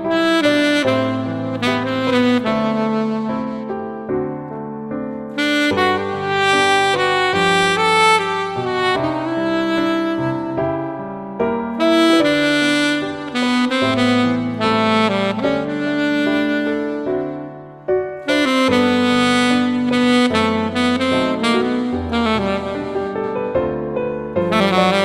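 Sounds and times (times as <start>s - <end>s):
alto saxophone melody: 0.0s - 25.0s
keyboard and bass backing: 0.0s - 25.0s.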